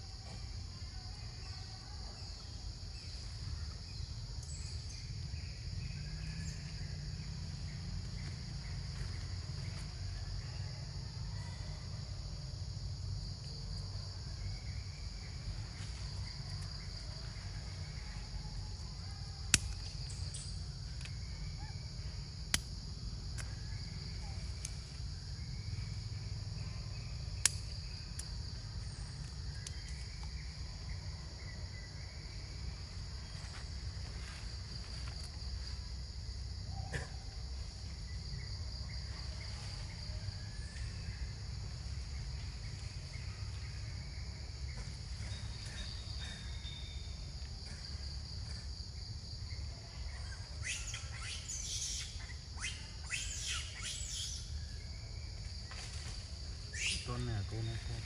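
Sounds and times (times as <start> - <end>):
high insect chorus: 0.0 - 58.0.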